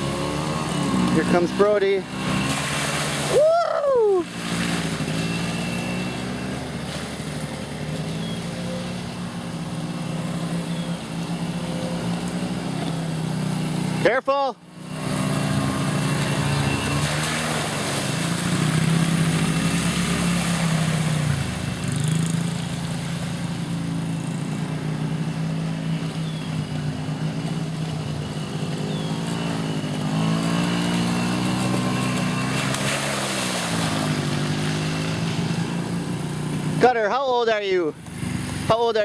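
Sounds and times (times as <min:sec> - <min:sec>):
small engines revving: 0:00.0 - 0:39.0.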